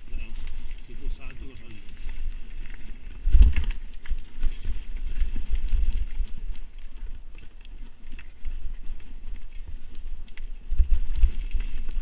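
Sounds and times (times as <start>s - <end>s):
bike tyres on dirt trail: 0.0s - 12.0s
wind buffeting microphone: 0.0s - 12.0s.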